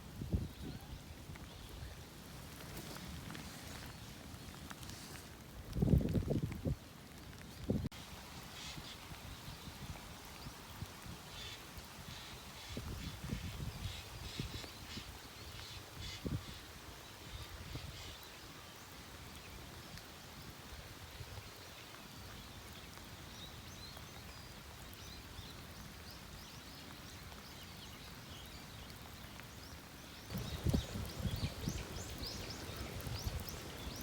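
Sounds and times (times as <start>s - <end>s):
light rain: 0.0s - 34.0s.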